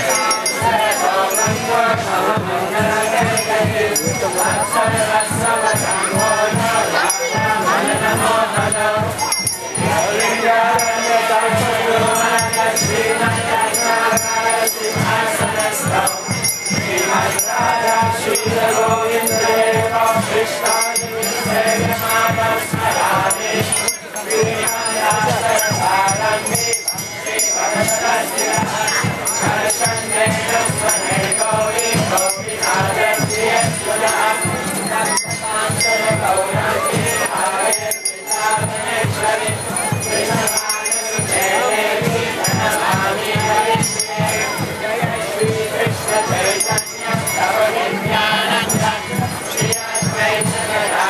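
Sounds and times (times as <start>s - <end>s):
crowd chanting: 0.0s - 51.0s
group singing: 0.0s - 51.0s
jingling hand cymbals: 0.0s - 51.0s
steady drum beat: 0.0s - 51.0s.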